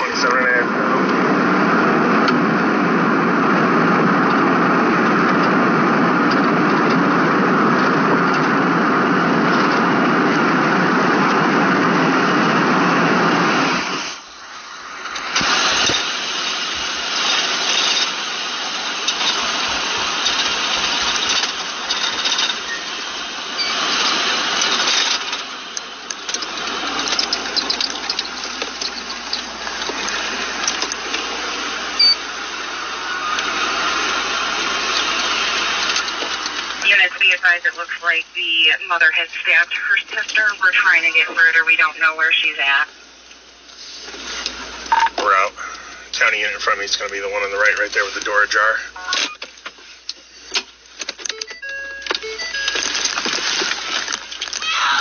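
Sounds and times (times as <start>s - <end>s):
road and engine noise in cabin: 0.0s - 55.0s.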